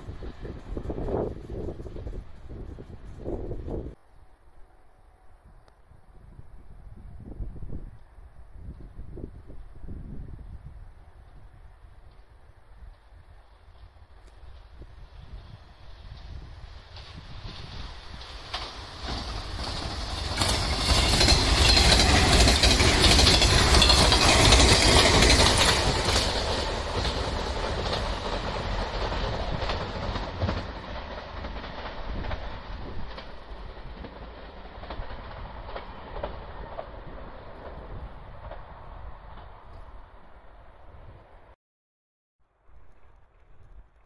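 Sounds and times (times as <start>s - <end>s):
electric train passing: 0.0s - 41.5s.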